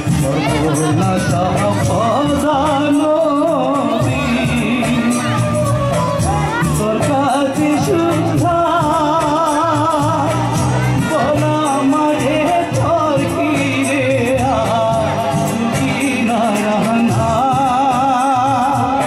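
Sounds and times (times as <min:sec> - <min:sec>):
instrumental accompaniment: 0:00.0 - 0:19.0
man singing into a microphone: 0:00.0 - 0:19.0.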